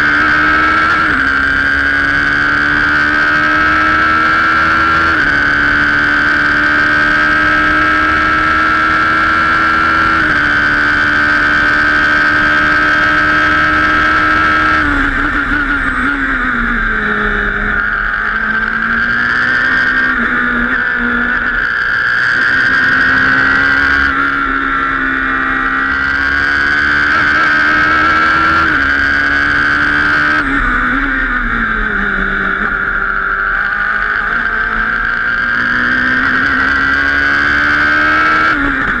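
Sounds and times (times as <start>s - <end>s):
racing car engine revving: 0.0s - 39.0s.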